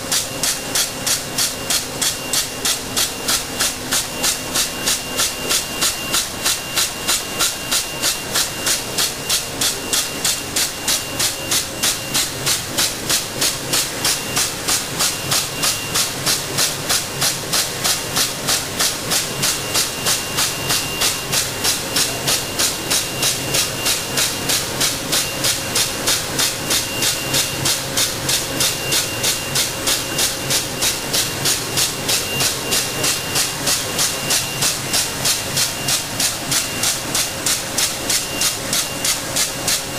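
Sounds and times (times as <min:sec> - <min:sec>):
bag-making machine running: 0:00.0 - 0:39.9.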